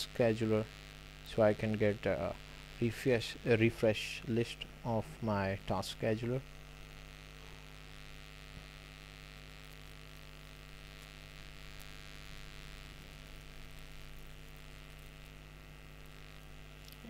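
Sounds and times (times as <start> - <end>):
faint hiss: 0.0 - 17.0
low electrical hum: 0.0 - 17.0.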